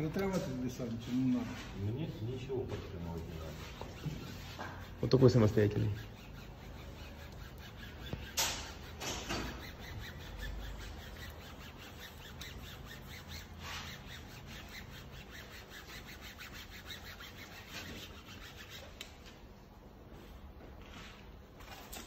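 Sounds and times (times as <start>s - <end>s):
hands rubbing vinyl film: 0.0s - 19.4s
palm swishing over film: 0.0s - 19.5s.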